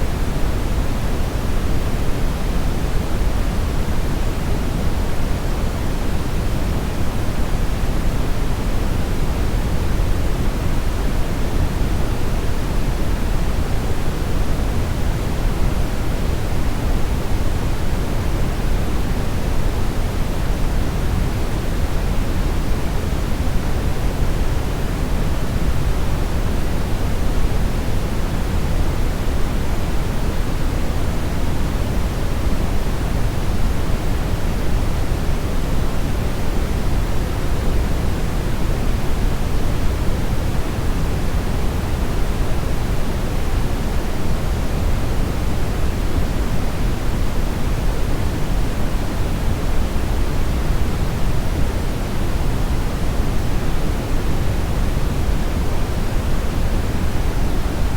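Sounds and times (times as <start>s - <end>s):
brown noise hiss: 0.0s - 57.9s.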